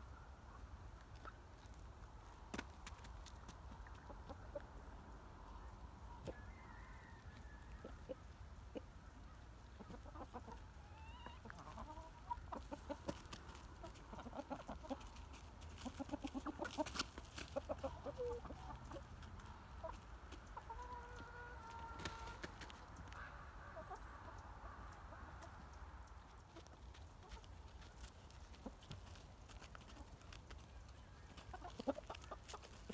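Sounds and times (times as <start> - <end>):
hens clucking: 2.5 - 6.5, 7.6 - 32.9.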